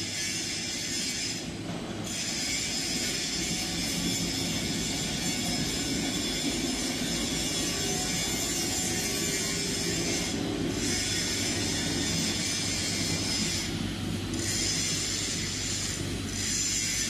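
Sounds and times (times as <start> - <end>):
high whine and hiss: 2.2 - 17.0.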